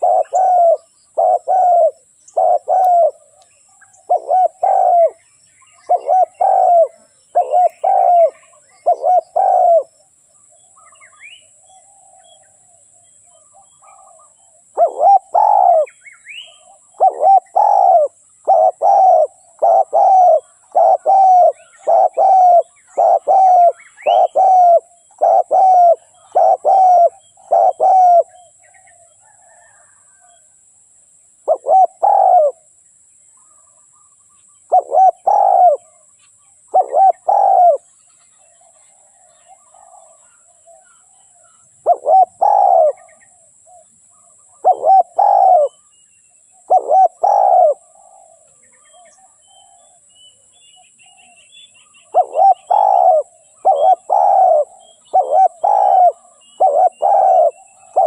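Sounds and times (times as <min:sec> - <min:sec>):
dove cooing: 0:00.0 - 0:10.0, 0:13.4 - 0:30.4, 0:31.4 - 0:32.7, 0:34.6 - 0:36.0, 0:36.7 - 0:37.9, 0:38.5 - 0:45.9, 0:46.6 - 0:50.0, 0:52.0 - 0:58.0
small bird chirping: 0:00.0 - 0:30.4, 0:33.3 - 0:58.0.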